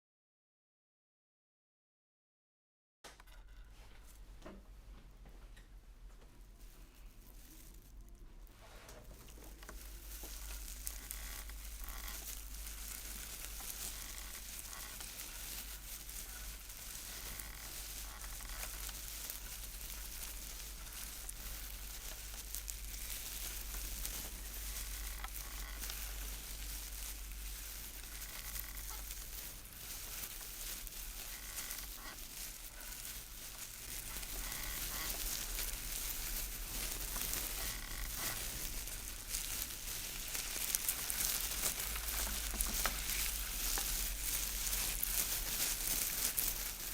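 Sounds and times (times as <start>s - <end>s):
steady rushing hiss: 9.2s - 46.9s.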